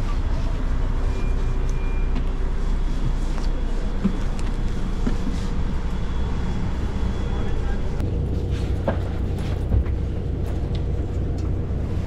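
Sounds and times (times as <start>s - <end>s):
coach engine rumble: 0.0s - 12.0s.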